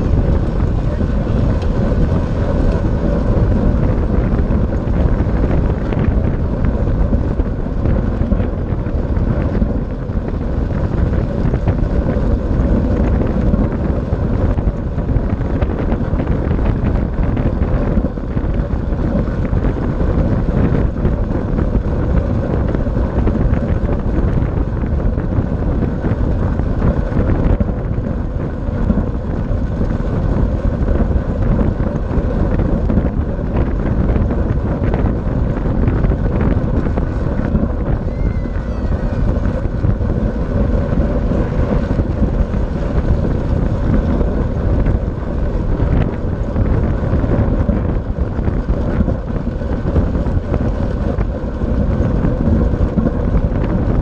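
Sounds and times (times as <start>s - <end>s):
tyres humming on wooden track: 0.0s - 54.0s
wind rush on microphone: 0.0s - 54.0s.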